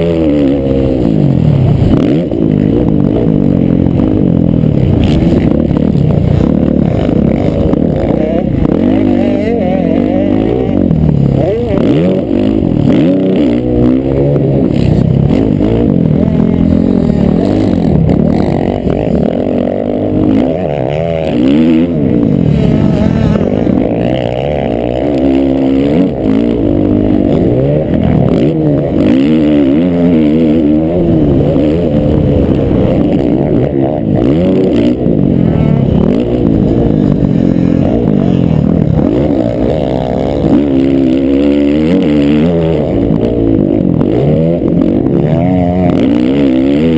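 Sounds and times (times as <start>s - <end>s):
motocross bikes revving: 0.0s - 46.9s.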